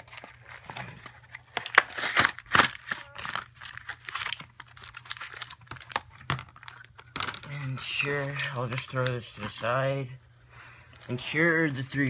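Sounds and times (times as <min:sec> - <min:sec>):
plastic packaging crinkling: 0:00.0 - 0:09.7, 0:10.8 - 0:12.0.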